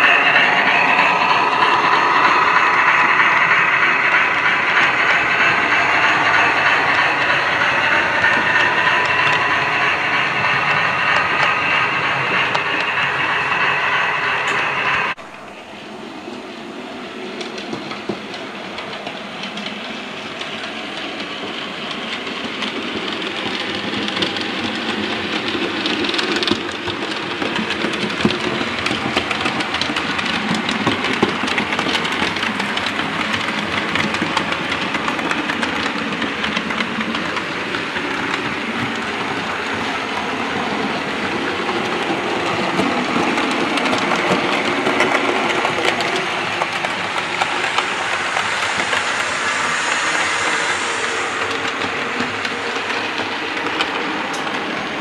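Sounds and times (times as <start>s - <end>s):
wheels clicking over rail joints: 0.0s - 15.3s, 17.2s - 55.0s.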